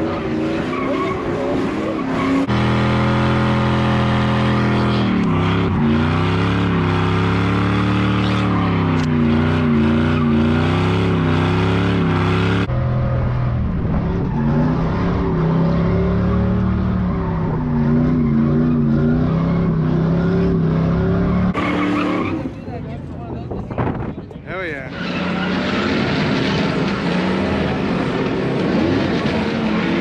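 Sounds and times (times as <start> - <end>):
truck engine revving: 0.0 - 22.9, 24.7 - 30.0.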